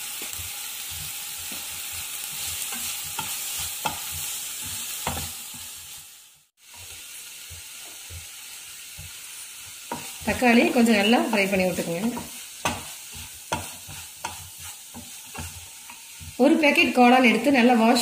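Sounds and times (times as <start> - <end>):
vegetables sizzling in a pan: 0.0 - 18.0
spatula tapping pan: 0.2 - 5.4, 6.7 - 18.0
spatula stirring: 0.4 - 6.0, 6.6 - 18.0.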